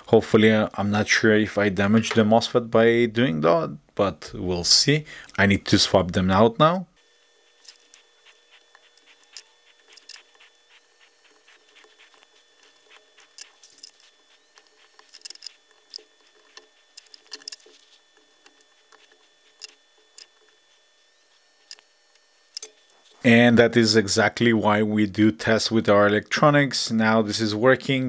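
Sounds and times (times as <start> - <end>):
faint background hum: 0.0 - 28.0.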